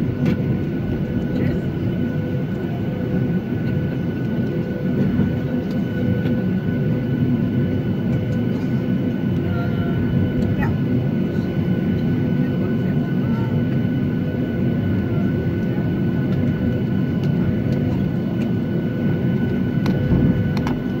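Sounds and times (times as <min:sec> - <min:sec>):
jet engine rumble and whine: 0:00.0 - 0:21.0.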